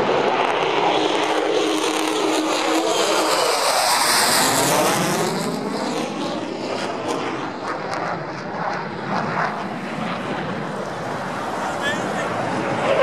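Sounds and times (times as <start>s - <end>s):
jet engine roar overhead: 0.0s - 13.0s.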